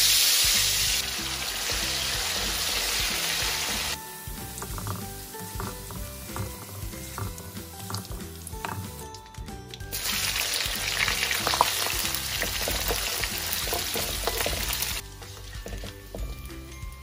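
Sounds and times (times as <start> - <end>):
fish sizzling in hot oil: 0.0 - 16.6.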